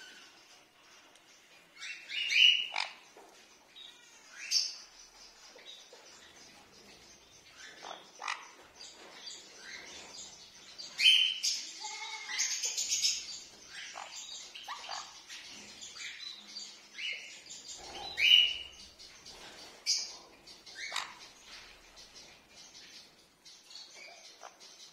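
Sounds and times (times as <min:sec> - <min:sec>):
parrots chirping and calling: 0:00.0 - 0:24.9.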